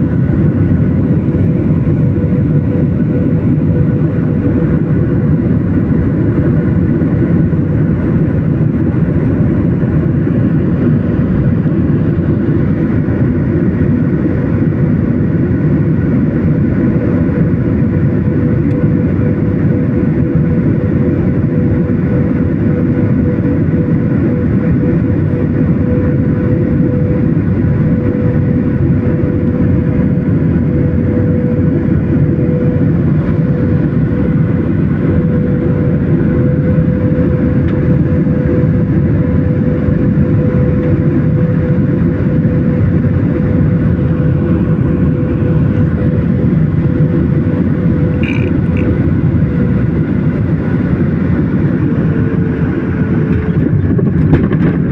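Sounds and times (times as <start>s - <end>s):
airplane engine droning: 0.0s - 54.9s.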